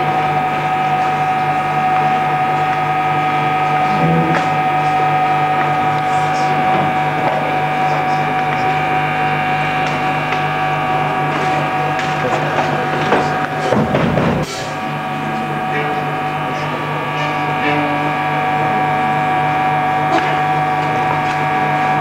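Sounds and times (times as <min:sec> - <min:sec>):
amplifier hum and buzz: 0:00.0 - 0:22.0.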